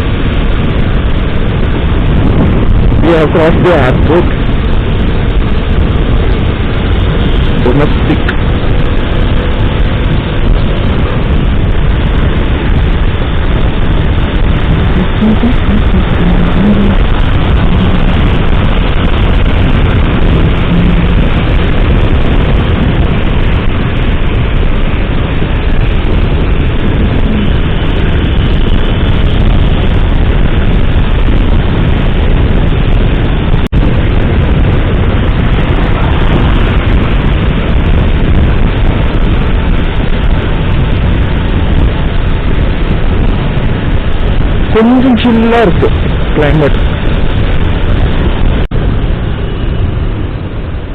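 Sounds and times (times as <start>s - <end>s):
road and traffic noise: 0.0s - 50.9s
wind buffeting microphone: 0.0s - 50.9s.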